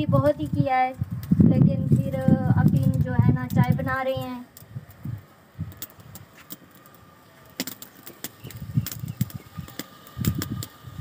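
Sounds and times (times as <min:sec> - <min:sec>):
faint crackles and clicks: 0:00.0 - 0:11.0.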